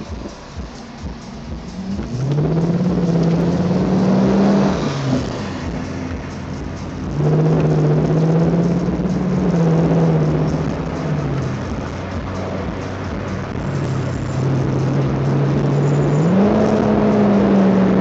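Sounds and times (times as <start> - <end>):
car exhaust accelerating: 0.0 - 18.0.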